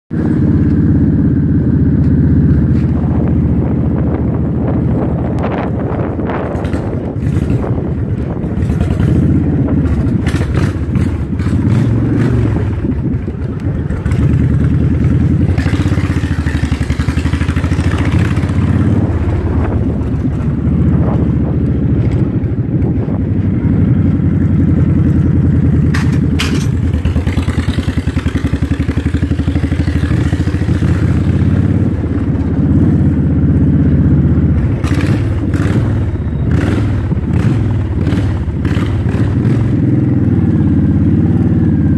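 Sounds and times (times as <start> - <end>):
motorcycle engine running: 0.1 - 41.9.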